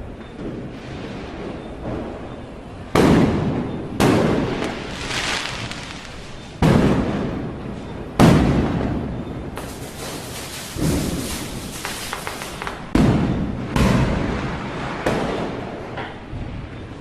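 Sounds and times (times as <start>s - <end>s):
firecracker bangs echoing: 0.4s - 16.5s.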